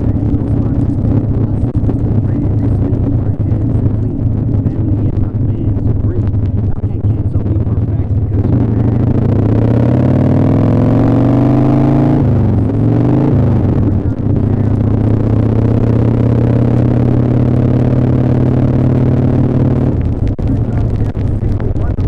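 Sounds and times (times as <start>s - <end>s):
muffled motorcycle engine accelerating: 0.0s - 22.0s.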